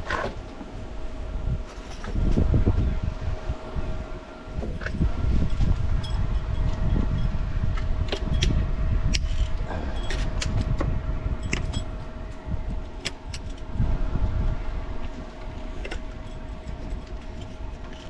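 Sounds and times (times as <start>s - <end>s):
faint steady hum: 0.0s - 18.0s
low rumble: 0.0s - 18.0s.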